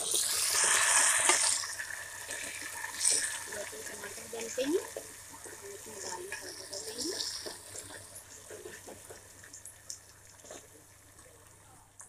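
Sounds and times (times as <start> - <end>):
onions sizzling in oil: 0.0 - 11.2.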